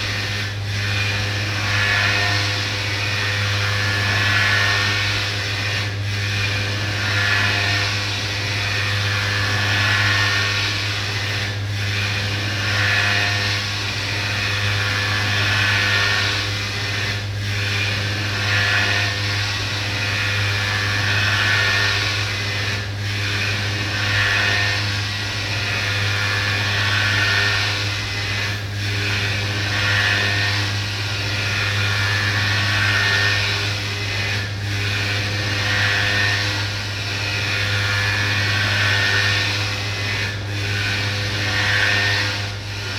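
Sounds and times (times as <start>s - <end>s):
motor hum: 0.0s - 42.9s.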